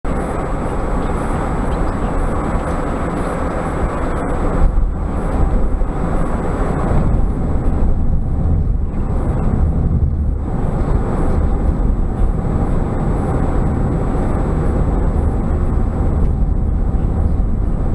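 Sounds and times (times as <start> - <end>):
car road and engine noise: 0.0 - 17.9.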